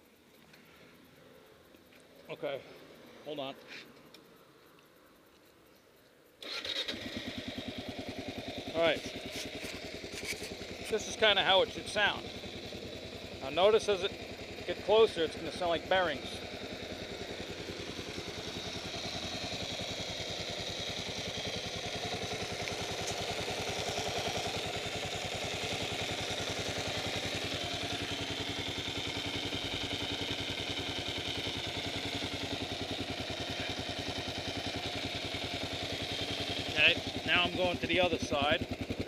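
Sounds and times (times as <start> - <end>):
motorcycle engine idling: 6.3 - 39.0.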